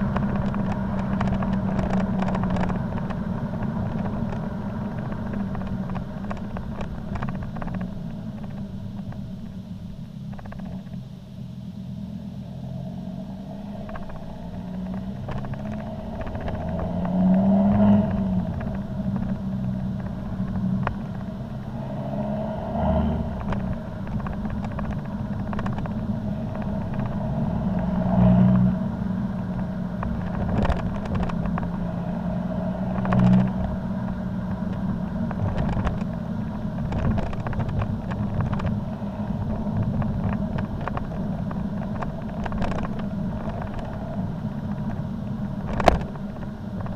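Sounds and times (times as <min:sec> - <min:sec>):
diesel engine low exhaust drone: 0:00.0 - 0:46.9.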